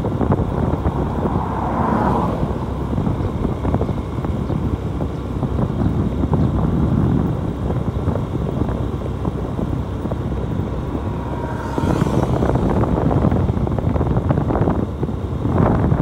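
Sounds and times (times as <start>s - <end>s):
motorcycle running on road: 0.0s - 16.0s
wind buffeting microphone: 0.0s - 16.0s.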